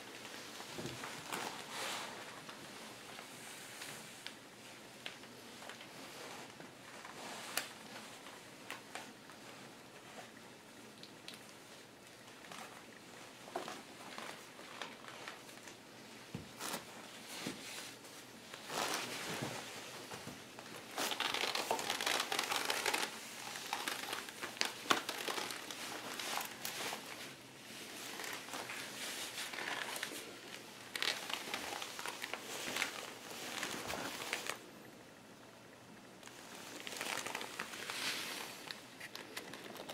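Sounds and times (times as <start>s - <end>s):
pvc clothing crinkling: 0.0s - 34.7s, 36.2s - 39.9s.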